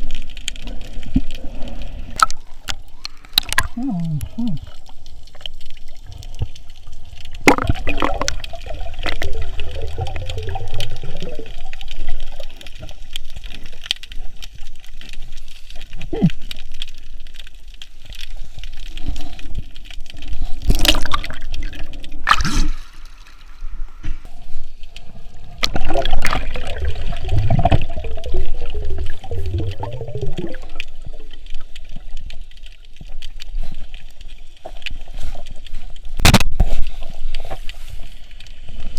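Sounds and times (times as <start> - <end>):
crackling bubbles: 0.0 - 38.9
water sloshing and gurgling: 0.0 - 38.9
water splashes: 0.0 - 38.9.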